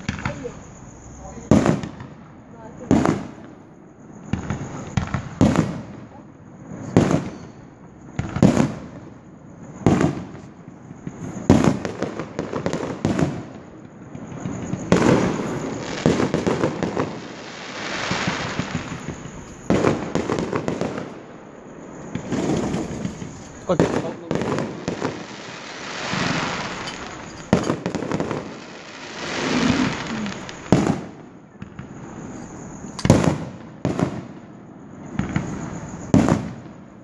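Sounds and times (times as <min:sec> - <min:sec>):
fireworks crackling: 0:00.0 - 0:03.6, 0:04.3 - 0:06.0, 0:06.8 - 0:34.4, 0:35.0 - 0:37.0
fireworks bursting with bangs: 0:00.0 - 0:37.0.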